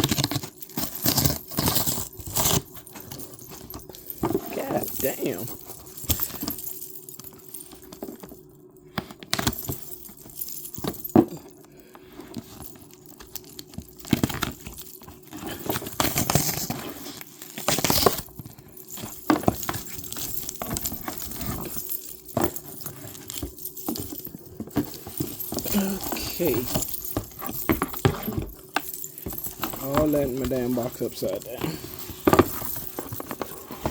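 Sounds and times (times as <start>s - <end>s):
cardboard and paper rustling: 0.0s - 6.6s, 9.0s - 33.9s.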